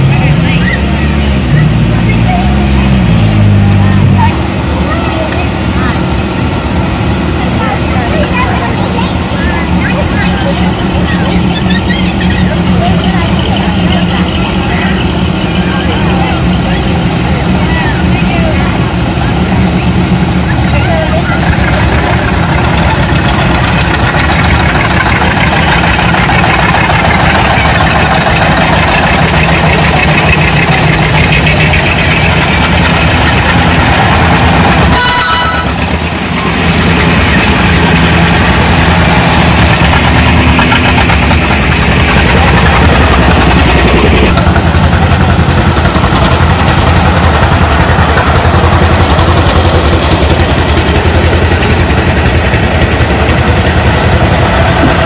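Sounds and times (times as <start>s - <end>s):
tractor engines chugging: 0.0s - 55.0s.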